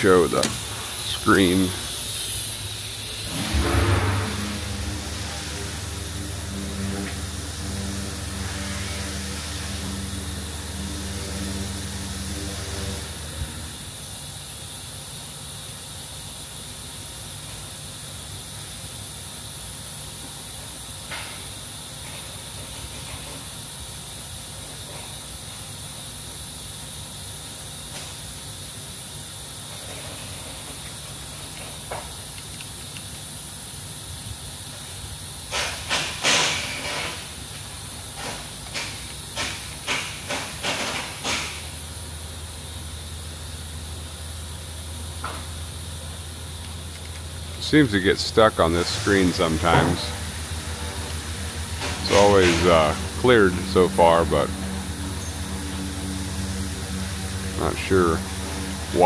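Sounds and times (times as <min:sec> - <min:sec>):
machine electrical hum: 0:00.0 - 0:59.0
steady hiss: 0:00.0 - 0:59.0.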